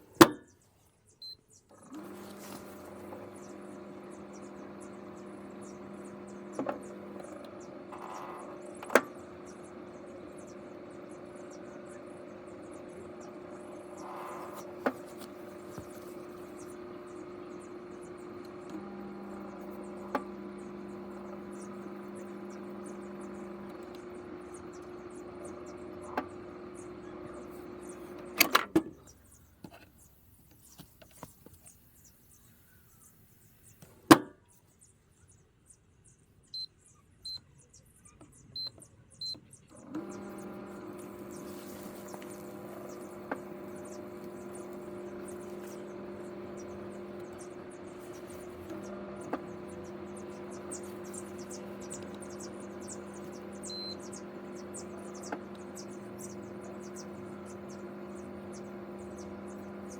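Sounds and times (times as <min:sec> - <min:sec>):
microwave oven humming: 0:01.2 - 0:29.4, 0:36.5 - 0:59.9.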